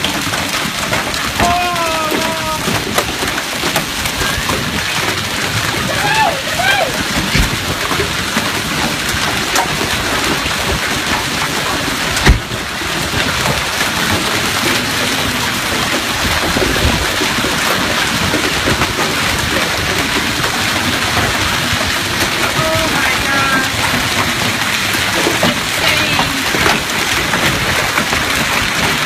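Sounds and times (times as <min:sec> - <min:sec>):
hail and heavy rain pelting: 0:00.0 - 0:29.0.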